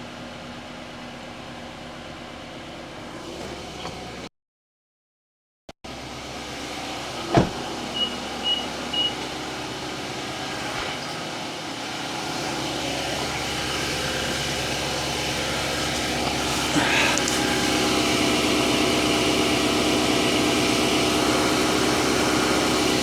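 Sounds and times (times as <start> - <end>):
car engine idling: 0.0 - 4.3, 5.9 - 23.0.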